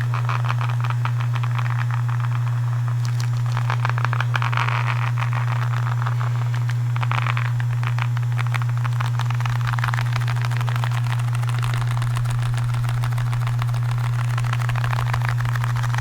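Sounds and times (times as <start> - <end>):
crackling handling noise: 0.0 - 16.0
low background hum: 0.0 - 16.0.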